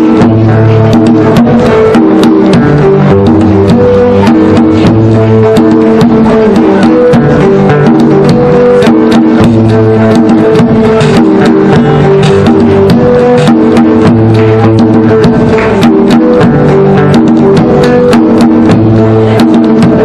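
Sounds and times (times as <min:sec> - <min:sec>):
hand drum beating: 0:00.0 - 0:20.0
melody of held notes: 0:00.0 - 0:20.0
plucked banjo: 0:00.0 - 0:20.0.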